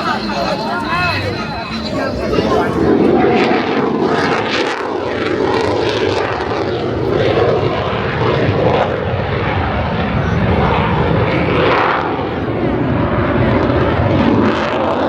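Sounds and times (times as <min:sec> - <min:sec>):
jet flying by: 0:00.0 - 0:15.0.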